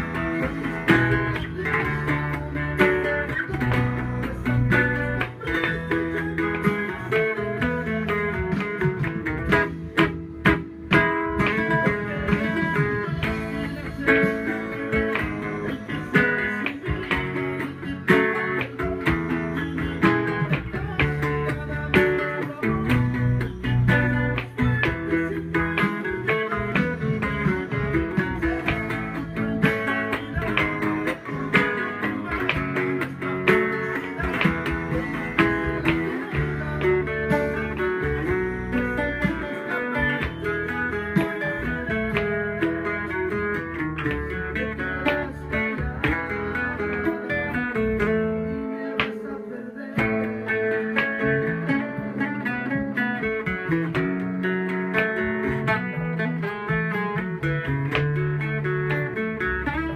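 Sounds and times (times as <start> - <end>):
guitar strummed chords and bass runs: 0.0 - 59.9.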